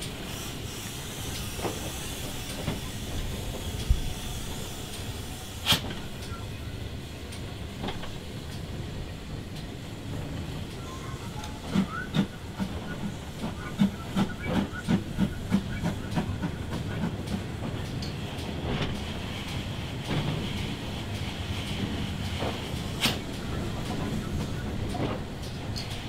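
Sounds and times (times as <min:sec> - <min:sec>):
steam train hiss and rumble: 0:00.0 - 0:26.0.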